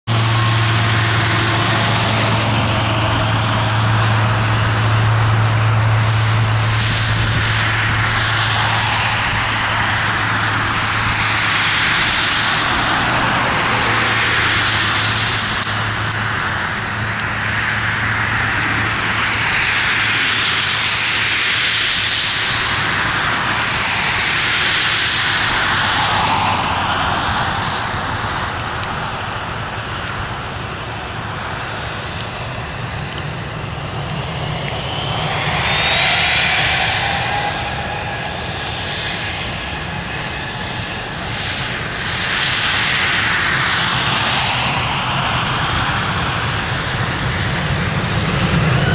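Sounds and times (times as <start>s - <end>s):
jet engines whining: 0.0s - 48.9s.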